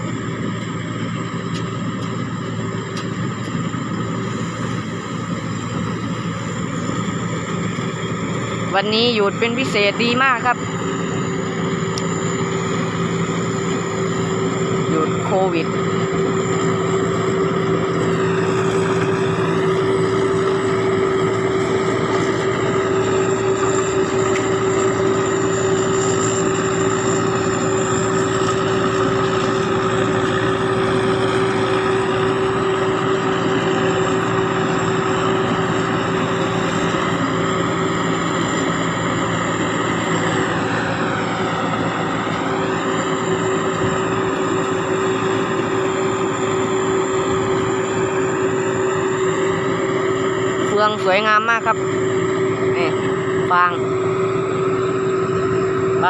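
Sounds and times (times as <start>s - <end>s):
diesel engine droning: 0.0s - 56.0s
high turbo whine: 0.0s - 56.0s.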